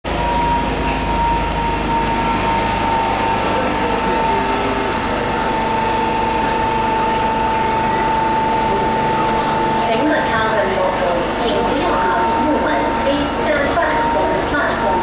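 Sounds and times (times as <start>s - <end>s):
train equipment high whine: 0.0s - 15.0s
loud low rumble: 0.1s - 15.0s.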